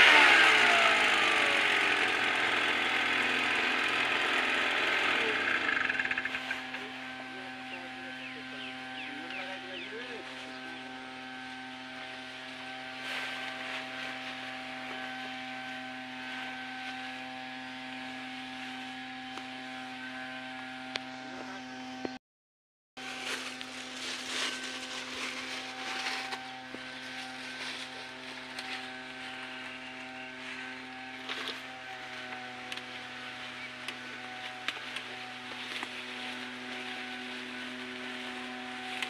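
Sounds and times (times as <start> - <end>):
small engine running: 0.0 - 22.2, 23.0 - 39.0.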